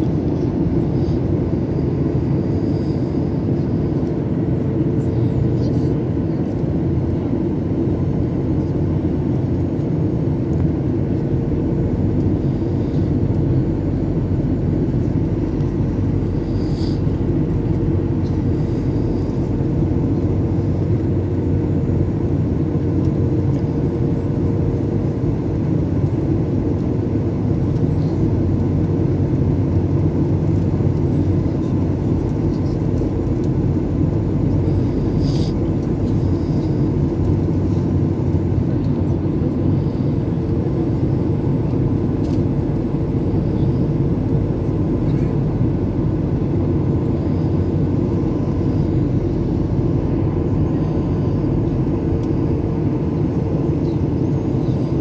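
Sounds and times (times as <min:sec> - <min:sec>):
faint steady hum: 0:00.0 - 0:55.0
jet engines rumbling in cabin: 0:00.0 - 0:55.0.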